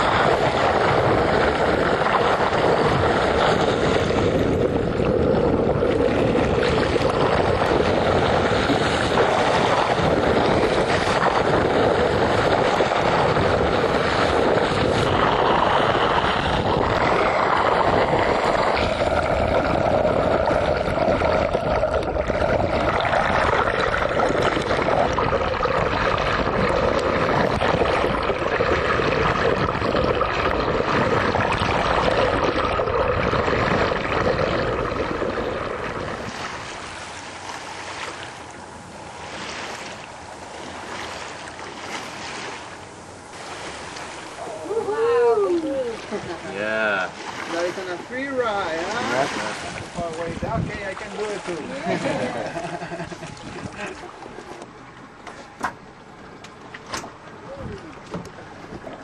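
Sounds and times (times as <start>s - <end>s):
boat motor running: 0.0s - 59.0s
rushing water: 0.0s - 59.0s.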